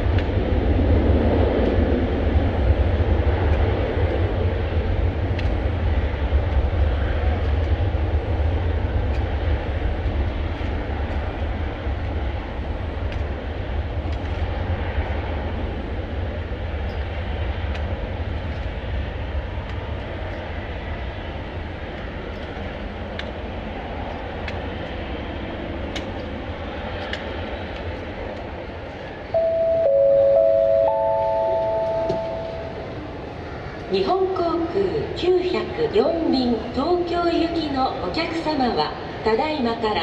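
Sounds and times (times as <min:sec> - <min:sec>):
jet engine rumble and hiss: 0:00.0 - 0:40.0.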